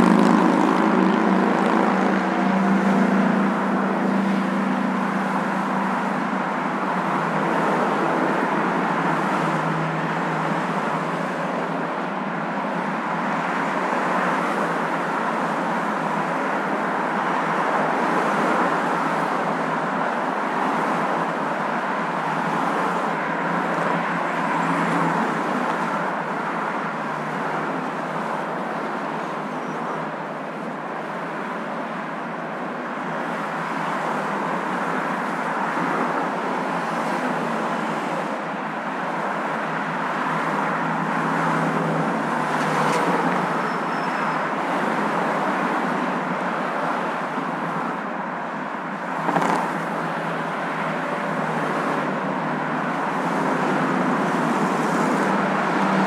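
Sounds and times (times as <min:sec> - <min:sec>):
car road and engine hum: 0:00.0 - 0:56.0.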